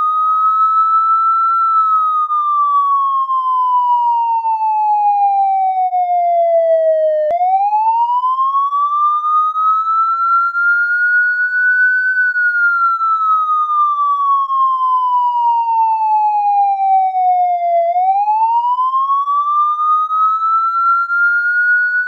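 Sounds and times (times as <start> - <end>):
police siren wailing: 0.0 - 22.0.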